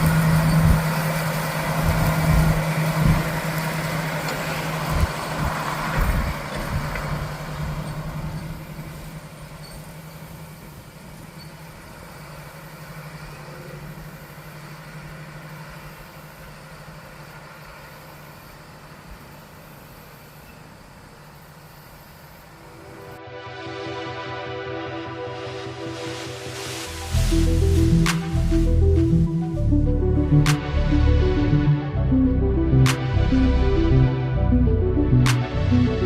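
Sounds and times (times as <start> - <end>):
farm machinery engine humming: 0.0 - 23.2, 23.9 - 36.0.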